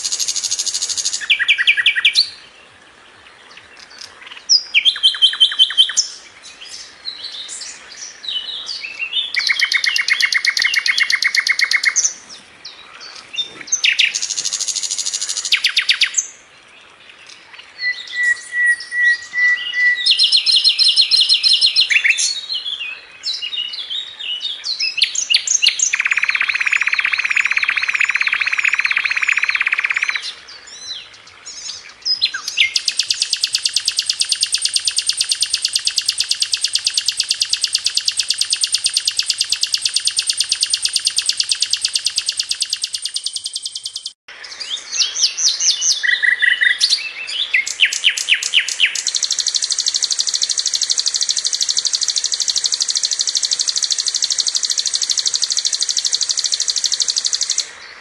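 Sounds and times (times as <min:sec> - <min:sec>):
bird singing rapid trills: 0:00.0 - 0:02.5, 0:03.8 - 0:16.4, 0:17.2 - 0:58.0.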